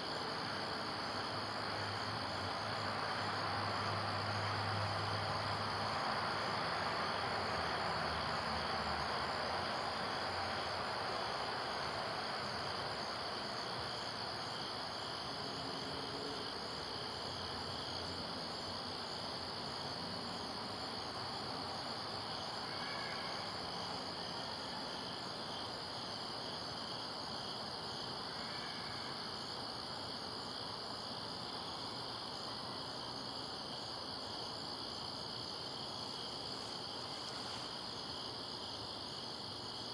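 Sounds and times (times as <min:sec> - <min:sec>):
crickets chirring: 0:00.0 - 0:39.9
faint outdoor hiss: 0:00.0 - 0:39.9.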